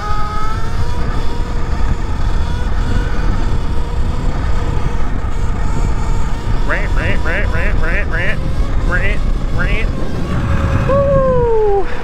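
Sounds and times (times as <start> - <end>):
electric motor whining: 0.0 - 12.0
wind rumble on microphone: 0.0 - 12.0.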